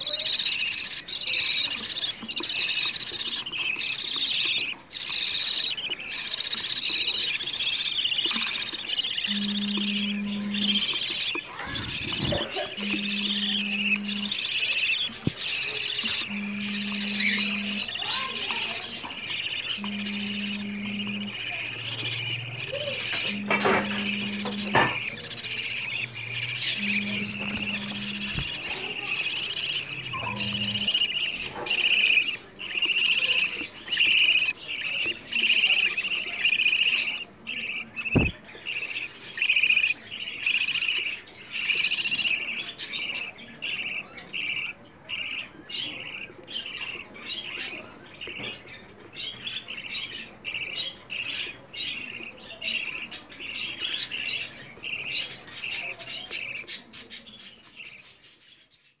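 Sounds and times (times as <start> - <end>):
chicks rasping begging calls: 0.0 - 57.3.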